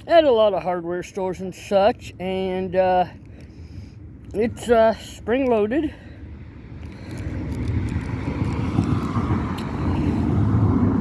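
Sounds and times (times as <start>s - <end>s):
low vehicle rumble: 2.0s - 11.0s.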